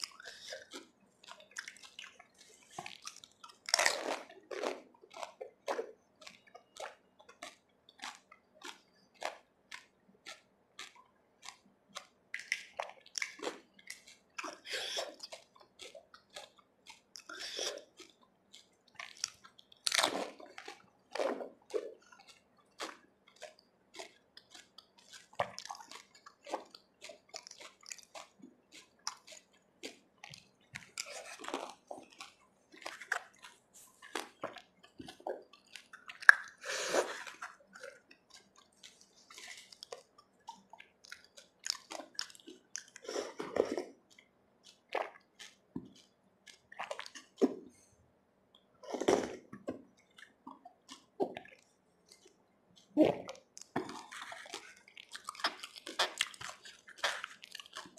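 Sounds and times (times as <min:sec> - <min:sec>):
wet squishy chewing: 0:00.0 - 0:47.9, 0:48.5 - 0:57.9.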